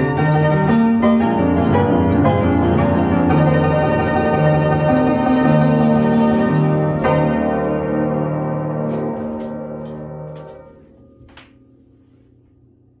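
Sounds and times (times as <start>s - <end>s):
player piano chord ringing: 0.0s - 12.0s.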